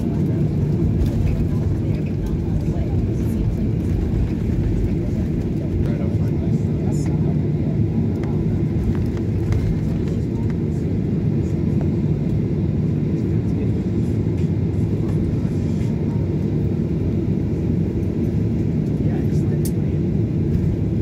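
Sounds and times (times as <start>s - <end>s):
airliner cabin low rumble: 0.0s - 21.0s.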